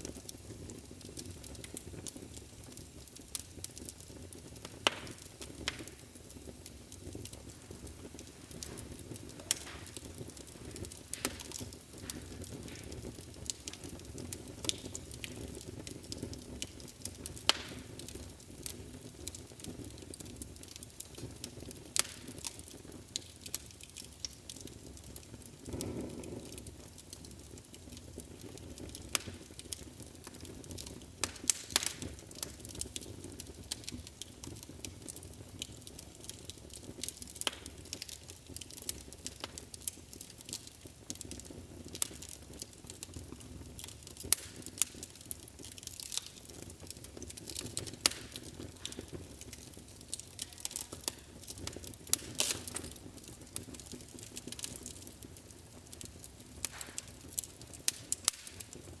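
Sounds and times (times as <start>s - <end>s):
fire crackling and popping: 0.0s - 59.0s
rumble of flames: 0.0s - 59.0s.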